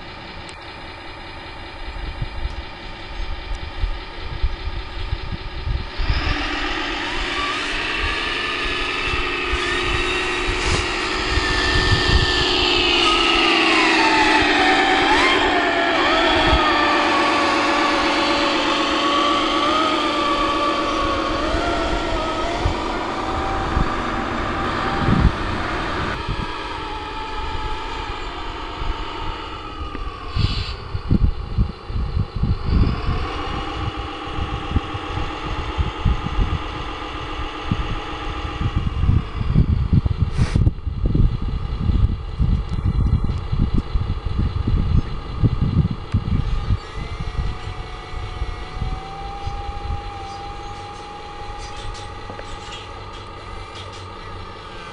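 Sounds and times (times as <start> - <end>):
toy truck electric drive whining: 0.0 - 54.9
wind buffeting microphone: 0.0 - 54.9.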